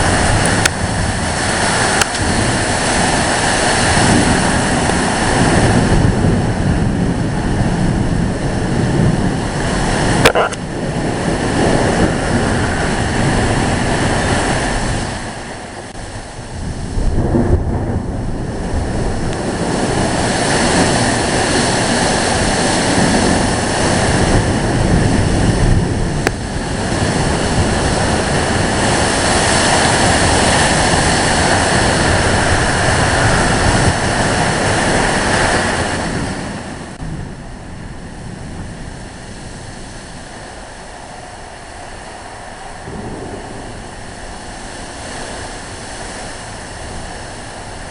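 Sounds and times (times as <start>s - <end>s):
strong wind gusts on microphone: 0.0s - 47.9s.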